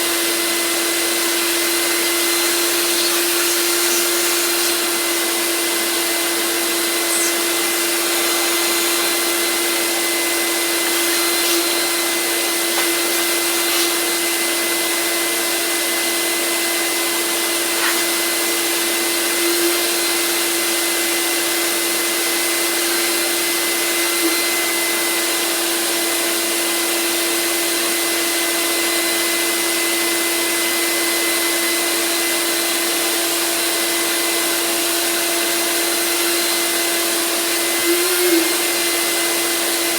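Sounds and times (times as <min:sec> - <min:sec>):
shop vac motor running: 0:00.0 - 0:39.9.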